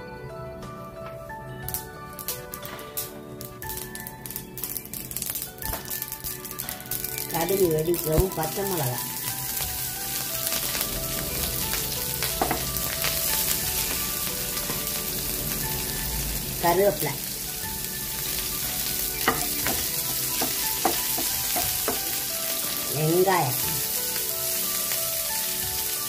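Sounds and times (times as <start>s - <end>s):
spices sizzling in hot oil: 1.6s - 26.0s.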